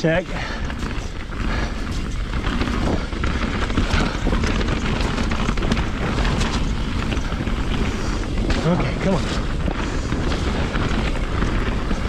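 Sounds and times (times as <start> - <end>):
bike knocking and rattling: 0.0 - 12.0
tyres rumbling over dirt: 0.0 - 12.0.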